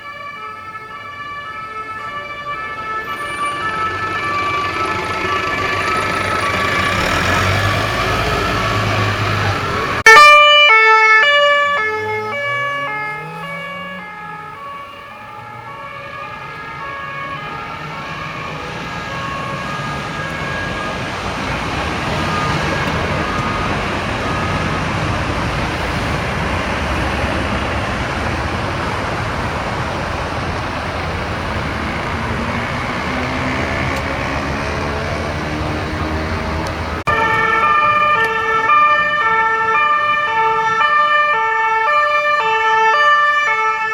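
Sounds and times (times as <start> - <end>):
traffic noise: 0.0 - 43.9
two-tone police siren: 0.0 - 43.9.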